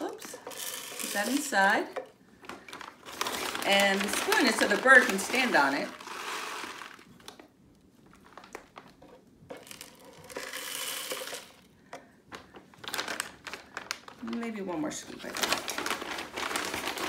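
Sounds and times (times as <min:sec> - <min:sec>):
plastic bag crinkling: 0:00.0 - 0:07.4, 0:08.0 - 0:11.7, 0:12.3 - 0:17.0.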